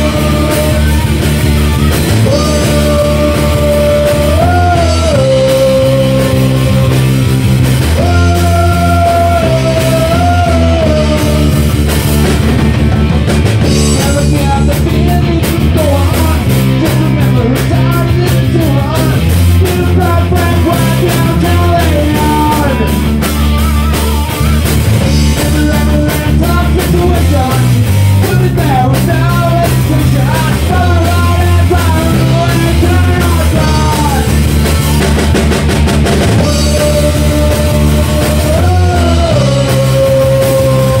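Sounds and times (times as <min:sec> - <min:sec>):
person singing into microphone: 0:00.0 - 0:07.3, 0:07.9 - 0:11.8, 0:13.7 - 0:35.1, 0:36.4 - 0:41.0
bass guitar: 0:00.0 - 0:41.0
drum kit: 0:00.0 - 0:41.0
electric guitars: 0:00.0 - 0:41.0.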